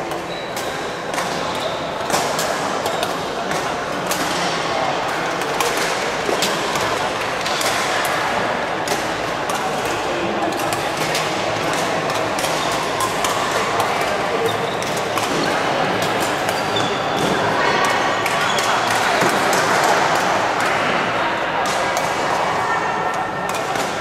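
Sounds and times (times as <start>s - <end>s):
background chatter: 0.0s - 24.0s
sports hall din: 0.0s - 24.0s
rackets striking shuttlecock: 0.1s - 22.4s.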